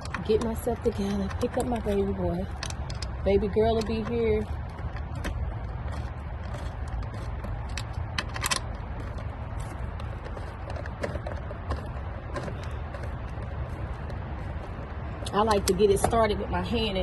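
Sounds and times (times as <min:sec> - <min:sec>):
tools clicking and scraping: 0:00.0 - 0:16.3
steady low rumble: 0:00.0 - 0:17.0.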